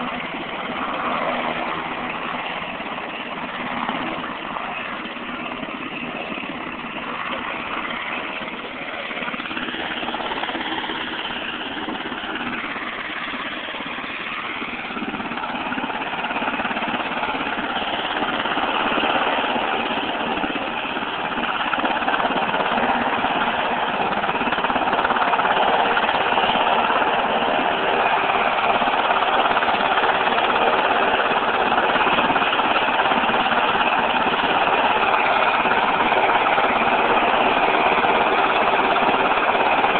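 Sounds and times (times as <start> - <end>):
helicopter rotor noise: 0.0 - 39.9
helicopter turbine engines whining: 0.0 - 39.9.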